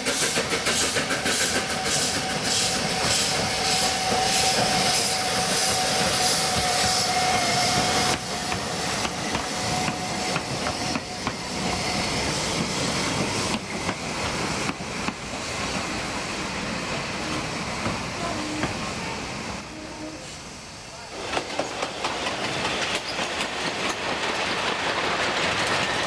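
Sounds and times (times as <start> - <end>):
train wheels clicking over rail joints: 0.0 - 16.3, 17.3 - 18.8, 21.1 - 26.0
steam hissing with high tone: 0.0 - 26.0.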